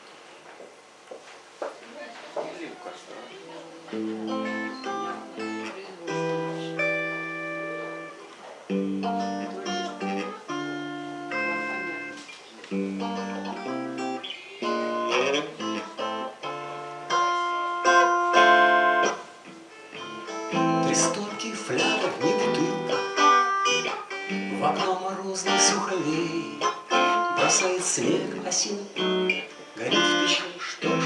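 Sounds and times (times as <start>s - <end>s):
acoustic guitar chords: 3.6s - 31.0s.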